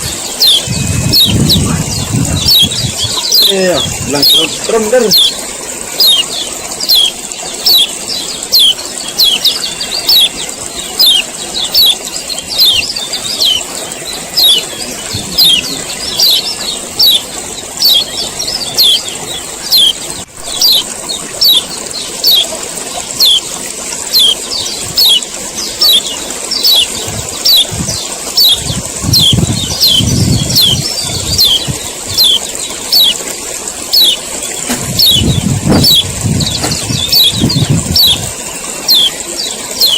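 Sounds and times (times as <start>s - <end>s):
bird chirping high calls: 0.0s - 39.9s
steady high hiss: 0.0s - 39.9s.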